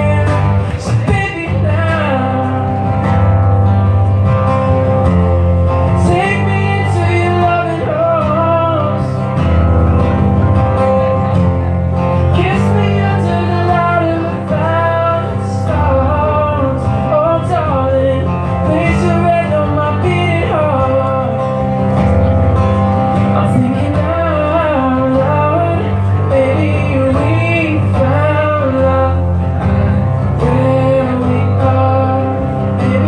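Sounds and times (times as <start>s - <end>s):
man singing a ballad: 0.0s - 3.2s, 5.8s - 9.6s, 12.2s - 22.0s, 23.2s - 33.0s
strummed acoustic guitar: 0.0s - 33.0s.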